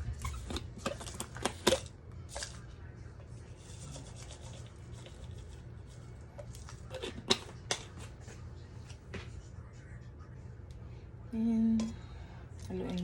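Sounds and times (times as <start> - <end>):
stovetop low hum: 0.0 - 13.0.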